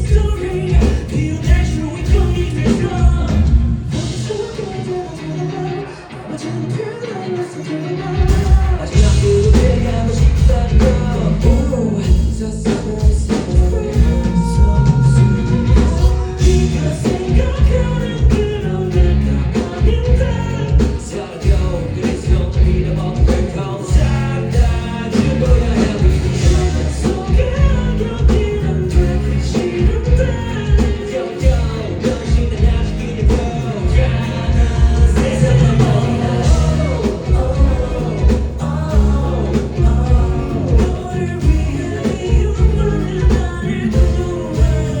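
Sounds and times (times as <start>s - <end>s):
live rock band: 0.0s - 45.0s
person singing: 0.0s - 45.0s.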